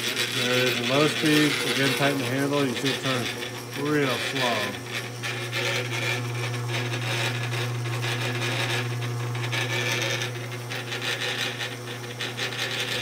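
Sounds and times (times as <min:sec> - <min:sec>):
belts and pulleys whirring: 0:00.0 - 0:13.0
drill press motor hum: 0:00.0 - 0:13.0.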